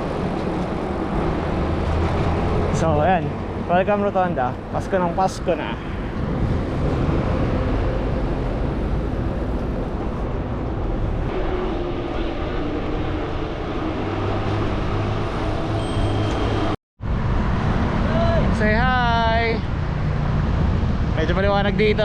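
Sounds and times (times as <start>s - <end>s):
passing motor vehicles: 0.0s - 22.0s
wind rumble on microphone: 0.0s - 22.0s.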